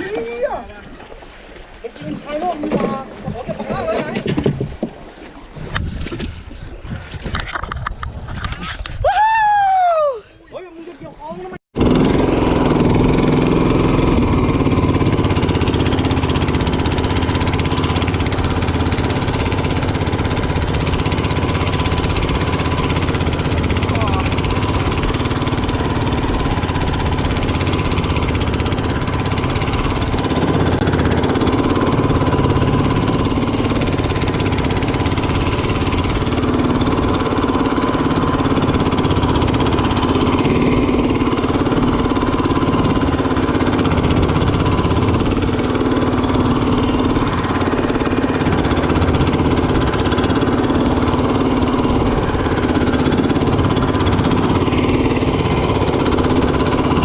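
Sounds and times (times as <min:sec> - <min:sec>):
boat engine running: 0:00.0 - 0:09.0, 0:10.4 - 0:57.0.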